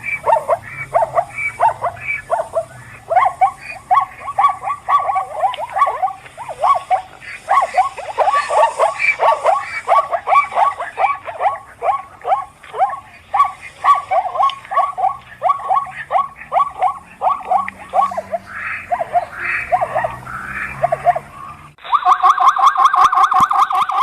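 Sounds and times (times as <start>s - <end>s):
zebra yelping barks: 0.0s - 21.6s.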